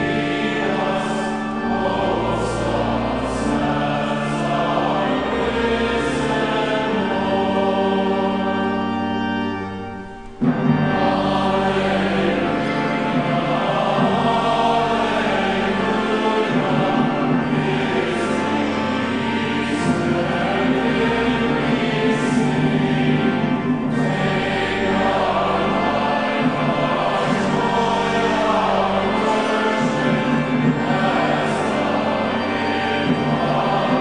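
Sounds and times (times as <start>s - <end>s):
congregation singing a hymn: 0.0s - 34.0s
organ playing: 0.0s - 34.0s.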